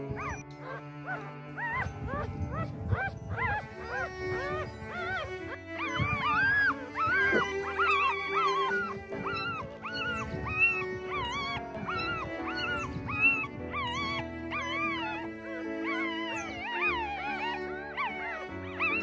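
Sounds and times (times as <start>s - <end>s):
background music: 0.0s - 19.0s
puppies squealing: 0.0s - 19.0s.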